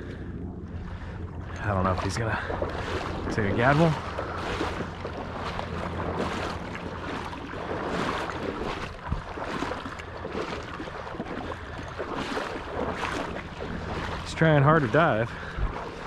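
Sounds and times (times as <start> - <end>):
wind on microphone: 0.0 - 14.2, 14.9 - 16.0
water sloshing from wading: 0.0 - 16.0.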